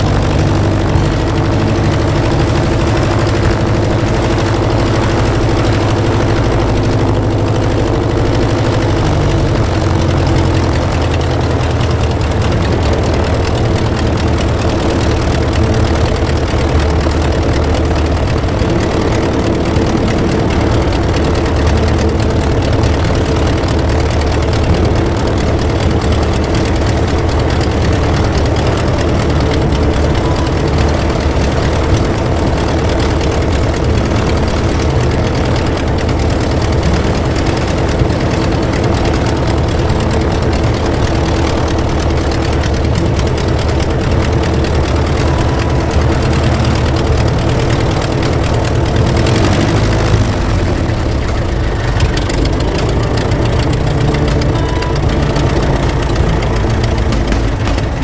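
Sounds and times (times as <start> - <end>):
propeller aircraft engine idling: 0.0 - 58.0.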